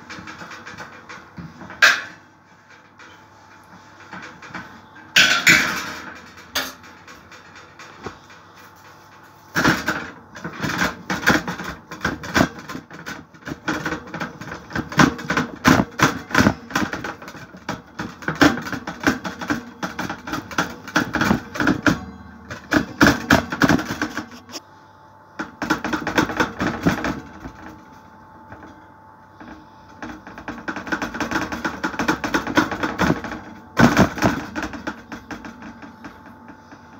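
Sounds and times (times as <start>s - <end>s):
hands patting dough in metal tray: 0.0s - 24.6s, 25.4s - 36.9s.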